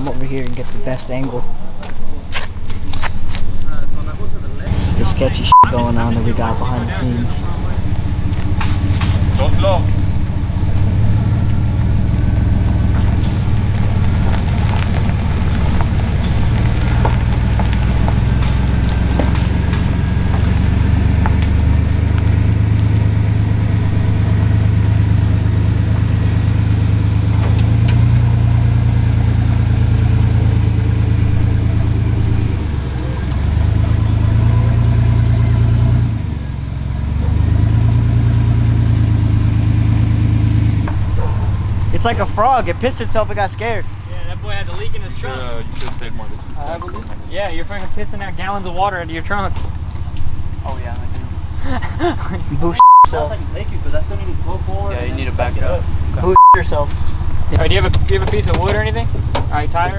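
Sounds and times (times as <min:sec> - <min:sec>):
truck engine running at low revs: 0:00.0 - 0:59.9.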